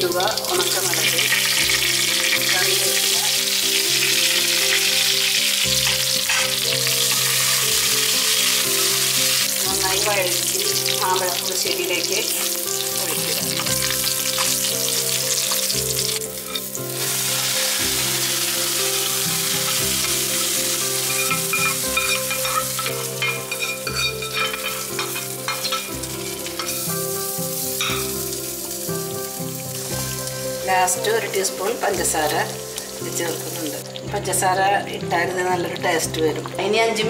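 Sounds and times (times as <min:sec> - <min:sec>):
spices sizzling in hot oil: 0:00.0 - 0:37.0.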